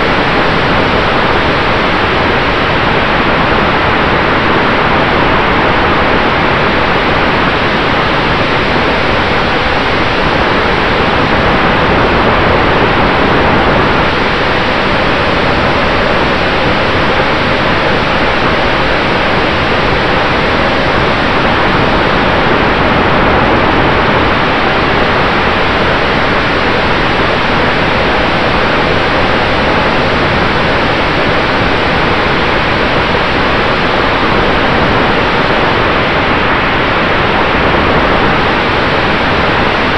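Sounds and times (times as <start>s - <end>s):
wind and propeller noise: 0.0s - 39.9s.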